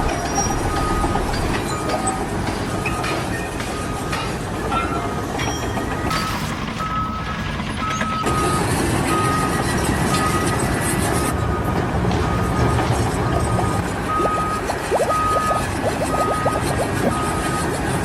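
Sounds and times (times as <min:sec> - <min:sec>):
reversing alarm beeping: 0:00.0 - 0:17.9
engine and machinery noise: 0:00.0 - 0:18.0.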